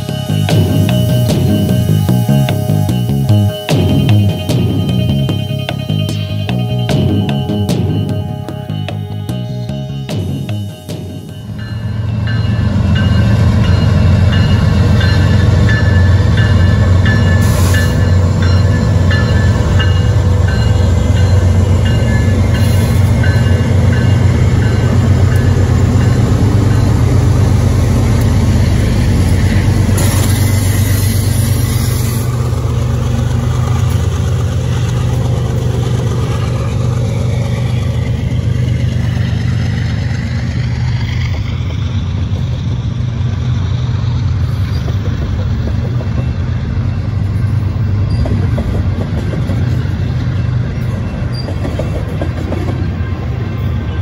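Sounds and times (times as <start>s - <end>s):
crossing bell ringing: 0.0s - 54.0s
diesel locomotive engine drone: 0.0s - 54.0s.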